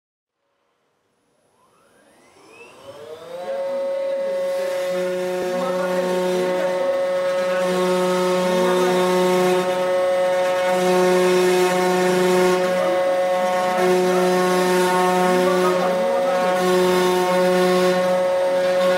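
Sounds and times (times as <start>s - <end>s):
router spindle whining: 1.6s - 18.9s
low motor hum: 2.0s - 18.9s.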